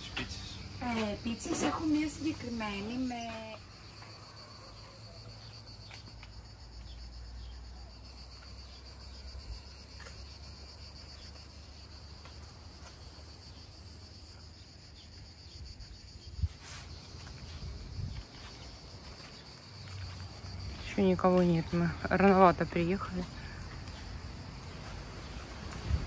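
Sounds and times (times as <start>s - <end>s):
insects chorus pulsing: 0.0s - 26.0s.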